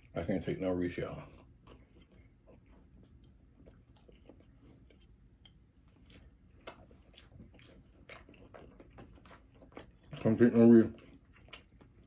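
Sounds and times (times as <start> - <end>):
quiet chewing: 0.0 - 12.0.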